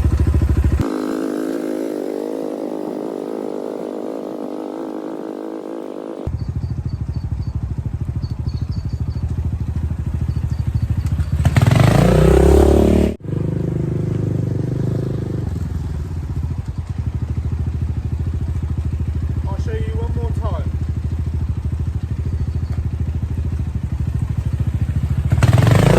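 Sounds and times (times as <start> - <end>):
dirt bike engine idling and revving: 0.0 - 25.9.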